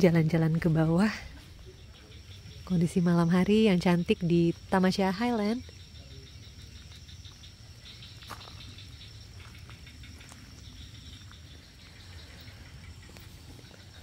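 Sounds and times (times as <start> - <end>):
high insect trill: 0.0 - 14.0
rapid pulsing frog call: 0.0 - 14.0.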